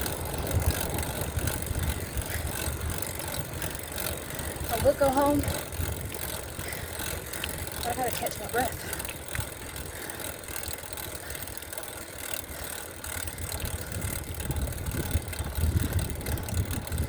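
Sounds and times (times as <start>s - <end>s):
wind buffeting microphone: 0.0s - 11.6s, 12.4s - 17.0s.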